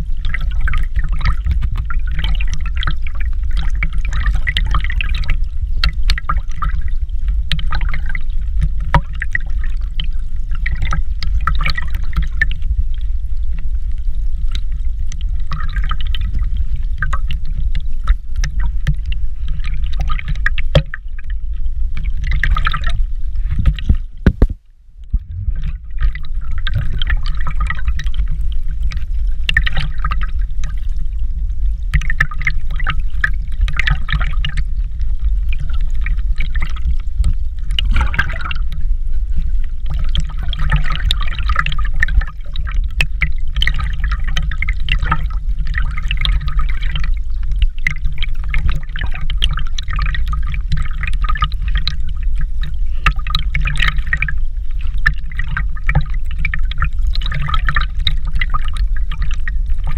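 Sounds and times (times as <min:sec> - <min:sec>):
rushing water: 0:00.0 - 0:59.9
water splashing and bubbling: 0:00.0 - 0:59.9.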